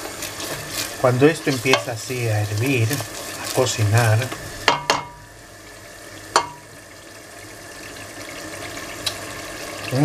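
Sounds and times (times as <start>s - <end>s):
sauce bubbling in a pot: 0.0s - 10.0s.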